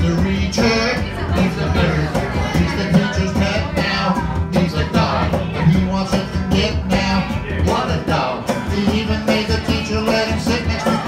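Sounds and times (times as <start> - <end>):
conga drum beat: 0.0 - 11.0
person singing: 0.0 - 11.0
strummed acoustic guitar: 0.0 - 11.0
upright bass: 0.0 - 11.0.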